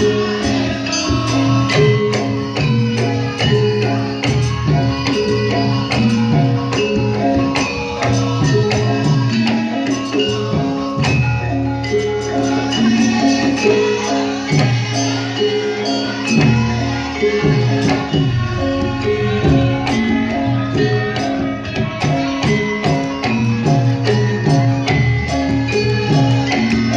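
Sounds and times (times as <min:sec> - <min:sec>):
hand drums: 0:00.0 - 0:26.9
jingling percussion: 0:00.0 - 0:26.9
mallet-struck notes: 0:00.0 - 0:26.9.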